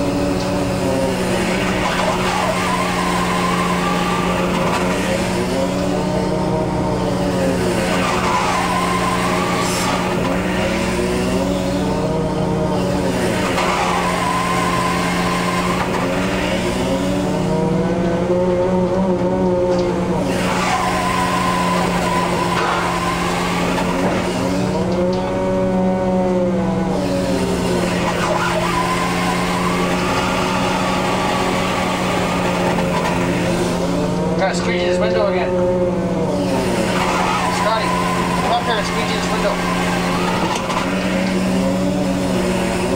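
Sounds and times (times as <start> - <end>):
boat engine drone: 0.0 - 42.9
hydraulic machinery whine: 0.0 - 42.9.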